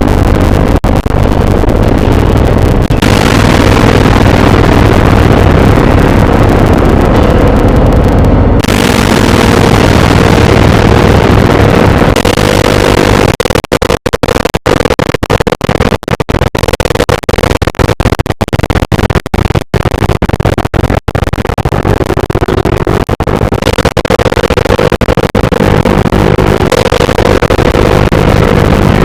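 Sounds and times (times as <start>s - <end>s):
harsh electronic noise: 0.0s - 29.0s.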